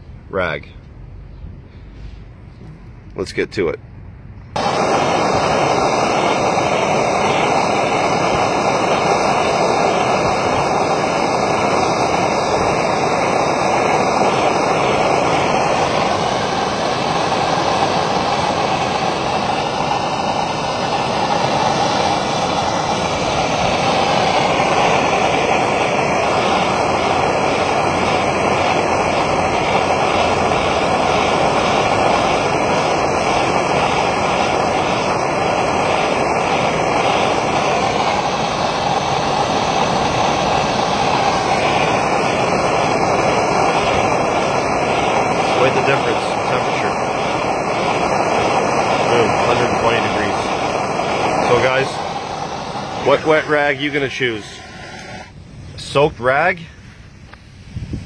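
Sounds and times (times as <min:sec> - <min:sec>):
torch flame hissing: 0:04.5 - 0:58.0.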